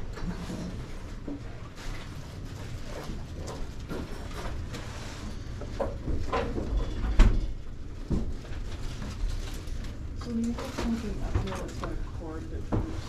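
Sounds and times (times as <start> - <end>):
knocks and clatter of handled objects: 0.0 - 13.0.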